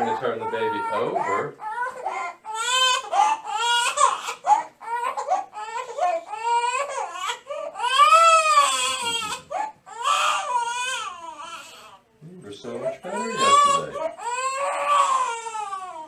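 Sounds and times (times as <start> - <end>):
baby crying: 0.0 - 12.0, 12.8 - 16.0.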